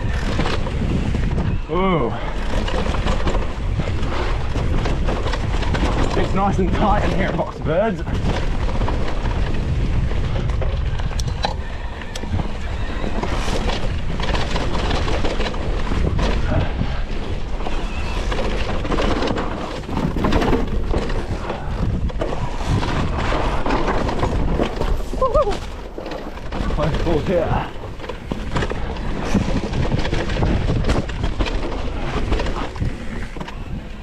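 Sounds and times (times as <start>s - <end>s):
bike knocking and rattling: 0.0s - 34.0s
wind and tyre rumble: 0.0s - 34.0s.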